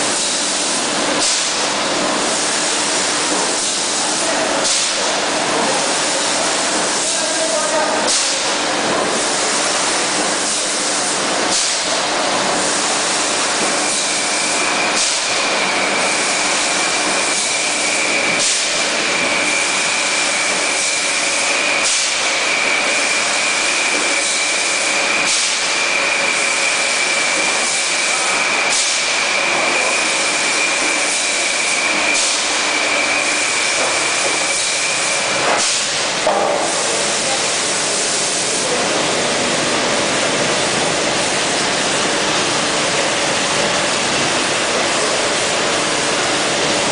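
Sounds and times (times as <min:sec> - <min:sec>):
machinery hiss and spray: 0:00.0 - 0:46.9.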